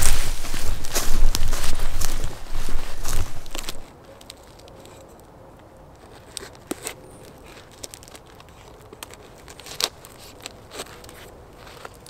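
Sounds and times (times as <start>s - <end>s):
bark crinkling and tearing: 0.0s - 12.0s.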